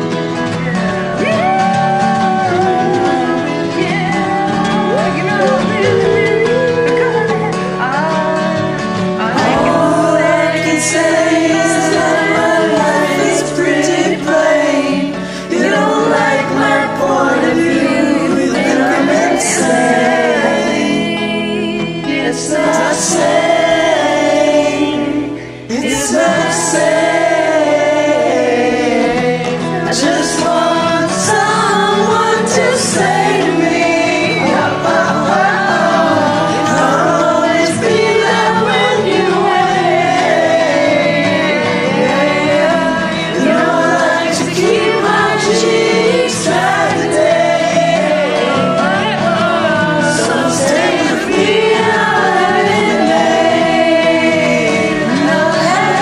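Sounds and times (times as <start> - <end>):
sustained singing with accompaniment: 0.0 - 56.0.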